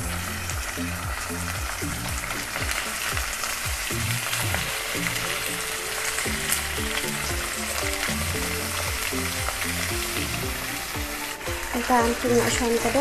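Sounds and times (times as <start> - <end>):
pork sizzling in oil: 0.0 - 13.0
soft background music: 0.0 - 13.0.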